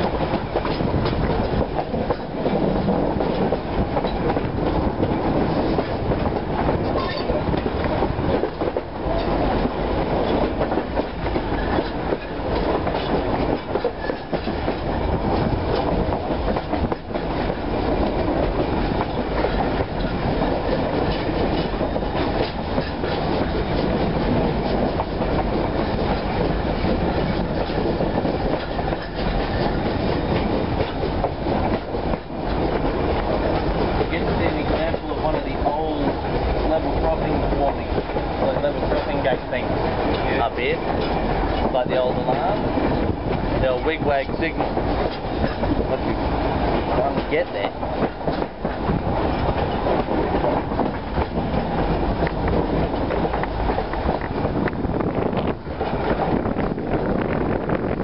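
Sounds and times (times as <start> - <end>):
train carriage rumble and rattle: 0.0 - 58.0
wheels clicking over rail joints: 0.0 - 58.0.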